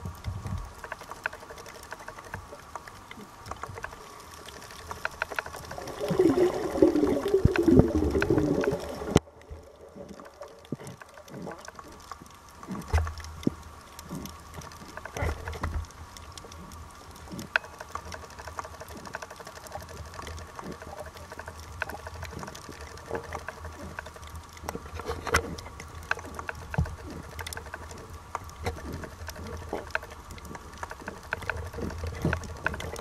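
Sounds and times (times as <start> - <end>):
clicks underwater: 0.0 - 33.0
underwater bubbling: 0.0 - 33.0
underwater water noise: 0.0 - 33.0.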